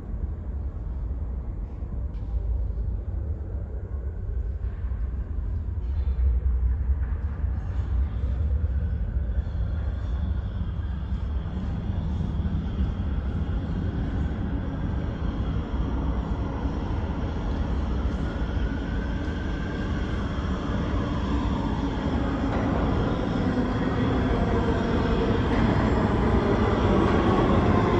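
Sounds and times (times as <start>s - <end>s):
subway train rumble: 0.0s - 27.9s.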